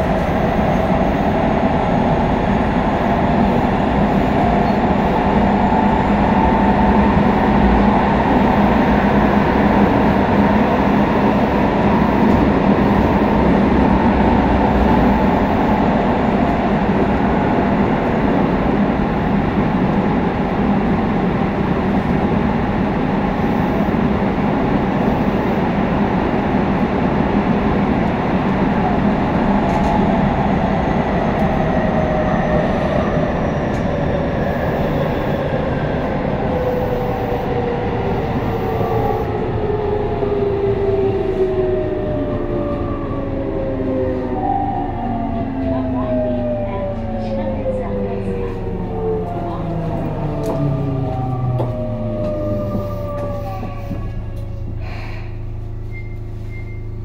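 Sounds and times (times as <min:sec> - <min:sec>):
train inverter and motor whine: 0:00.0 - 0:57.0
train wheels rumbling in tunnel: 0:00.0 - 0:57.0.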